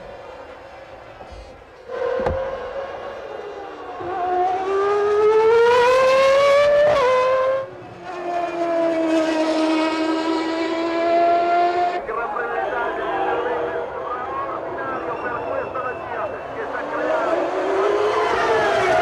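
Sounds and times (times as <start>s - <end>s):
race car engine revving: 1.9s - 19.0s.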